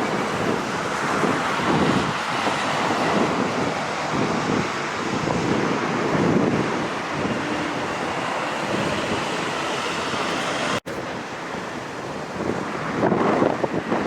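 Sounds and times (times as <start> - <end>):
helicopter rotor and engines running: 0.0 - 14.0
wind buffeting microphone: 0.0 - 14.0.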